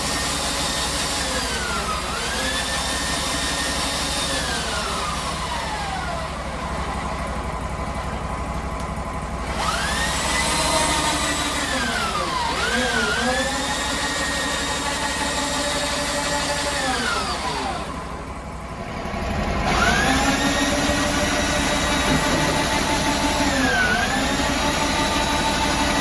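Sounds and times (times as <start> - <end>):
sawmill engine revving: 0.0 - 26.0.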